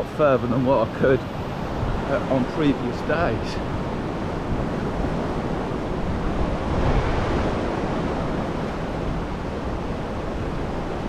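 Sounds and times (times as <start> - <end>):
sea waves washing onto beach: 0.0 - 11.0
wind on microphone: 0.0 - 11.0.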